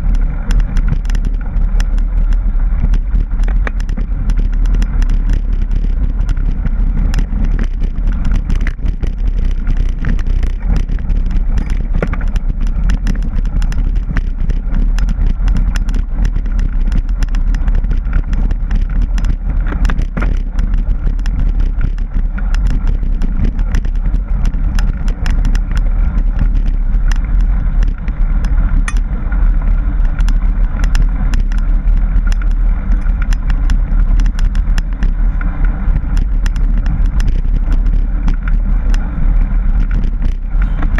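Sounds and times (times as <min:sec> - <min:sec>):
bike clicks and rattles: 0:00.0 - 0:40.9
rumble of wind and rolling tyres: 0:00.0 - 0:40.9.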